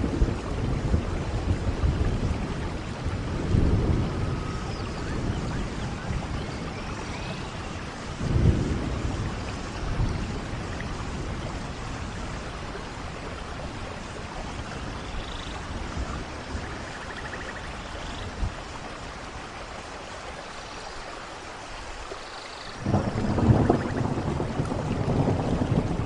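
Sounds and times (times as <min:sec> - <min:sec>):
thunder rumbling: 0:00.0 - 0:18.8, 0:22.8 - 0:26.0
steady rain: 0:00.0 - 0:26.0.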